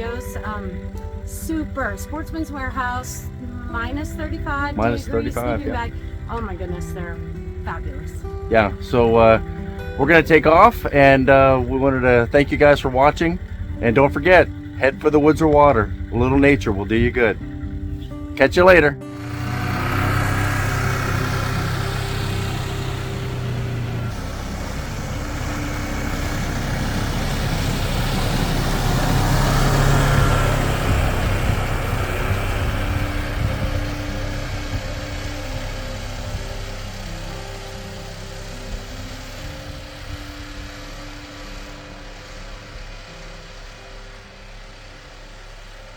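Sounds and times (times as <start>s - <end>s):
snowmobile engine running: 0.0s - 45.9s.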